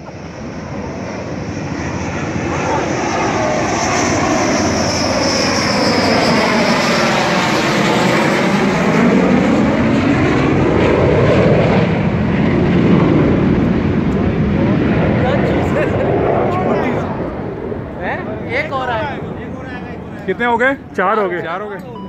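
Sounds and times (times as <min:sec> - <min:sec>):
high jet whine: 0:00.0 - 0:22.0
jet flying low overhead: 0:00.0 - 0:22.0.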